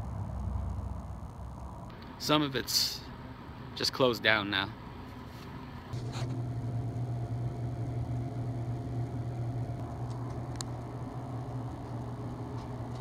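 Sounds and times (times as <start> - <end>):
low machine hum: 0.0 - 3.8, 4.6 - 13.0.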